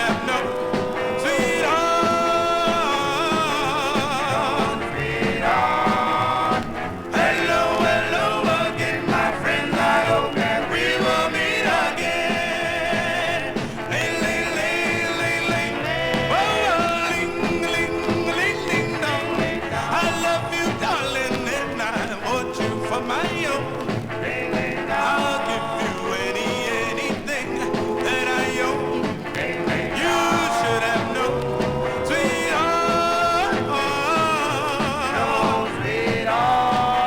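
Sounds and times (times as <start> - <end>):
doo-wop vocal group record: 0.0 - 37.0.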